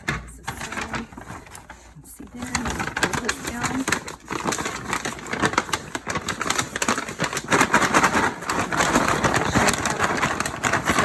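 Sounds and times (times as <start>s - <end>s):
popcorn rattling in paper bag: 0.0s - 11.0s.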